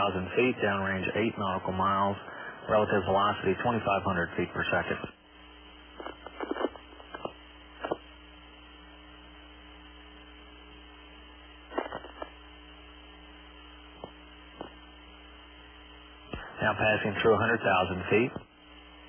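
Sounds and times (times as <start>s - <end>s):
electrical hum: 0.0s - 19.0s
faint radio hiss: 0.0s - 19.0s.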